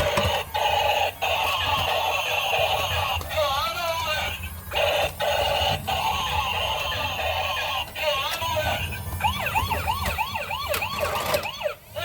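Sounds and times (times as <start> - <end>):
toy police siren: 0.0 - 12.0.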